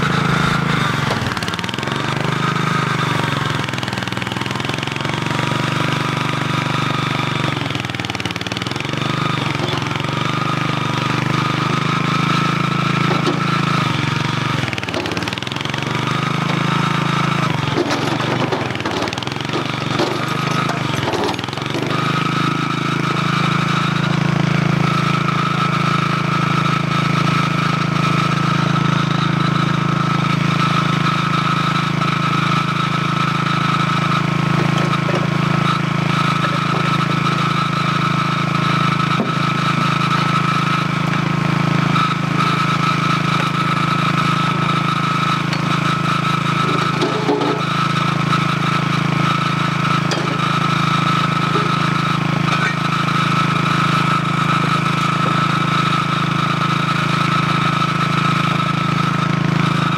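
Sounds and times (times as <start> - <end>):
small loader engine running: 0.0 - 59.9.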